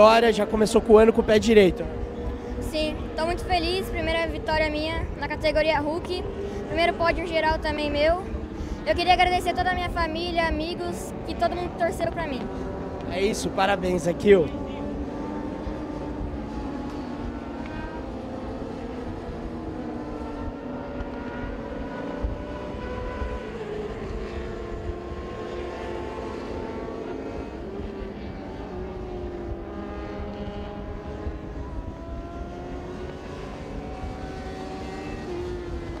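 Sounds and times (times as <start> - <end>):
distant motorcycle engines droning: 0.0 - 36.0.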